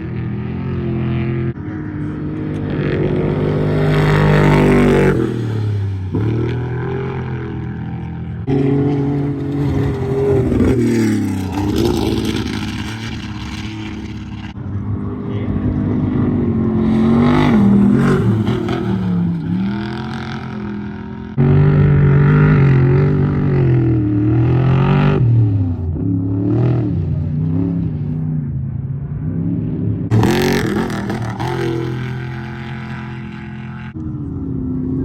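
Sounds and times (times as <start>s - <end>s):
race truck engines passing: 0.0s - 35.0s.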